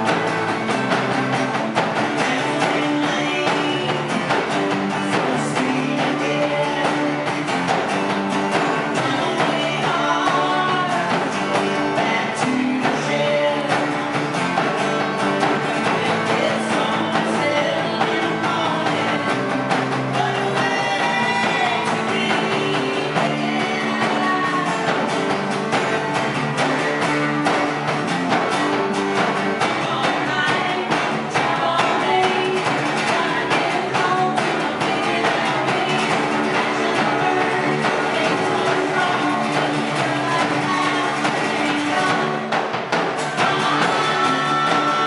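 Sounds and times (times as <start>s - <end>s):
electric guitar: 0.0s - 45.0s
strummed acoustic guitar: 0.0s - 45.0s
woman singing: 1.9s - 14.3s, 15.5s - 25.4s, 29.2s - 45.0s.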